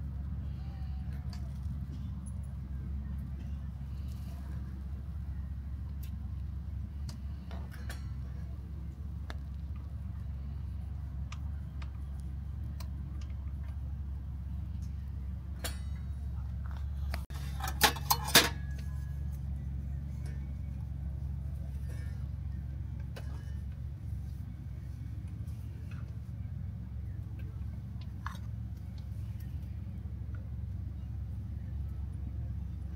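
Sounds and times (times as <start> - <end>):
low hum: 0.0 - 32.9.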